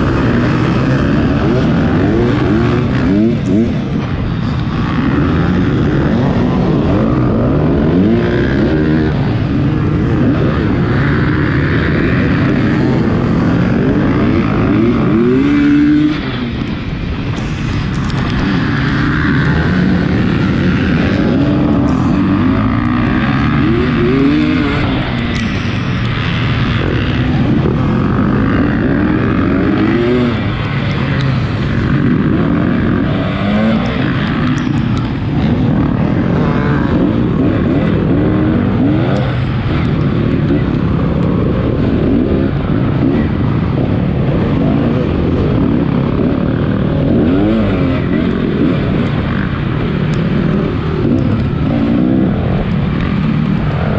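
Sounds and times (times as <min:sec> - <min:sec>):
off-road motorcycle engine revving: 0:00.0 - 0:53.9.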